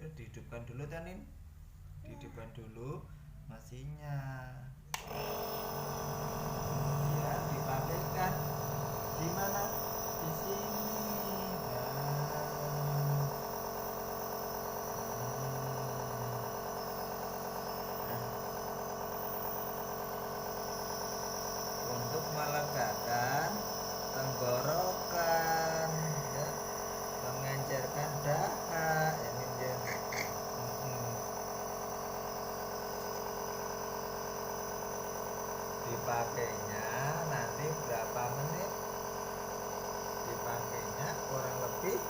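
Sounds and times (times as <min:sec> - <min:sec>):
nebulizer pump buzzing hum: 0:04.7 - 0:42.0
short low hums: 0:04.7 - 0:42.0.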